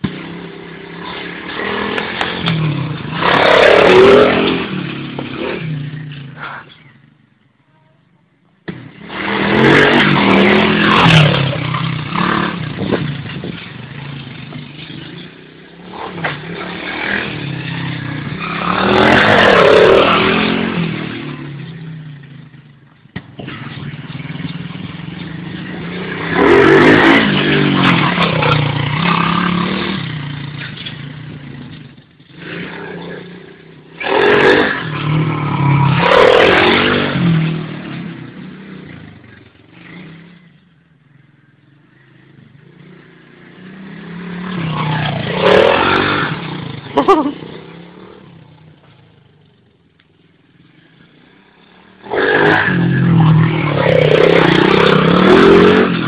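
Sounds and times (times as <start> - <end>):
motorbike engine revving: 0.0 - 7.2, 8.6 - 41.2, 41.8 - 49.8, 50.5 - 56.0.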